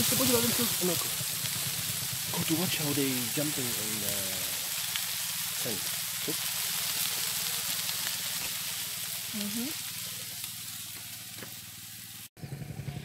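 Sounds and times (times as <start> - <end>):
food sizzling on a grill: 0.0 - 12.4.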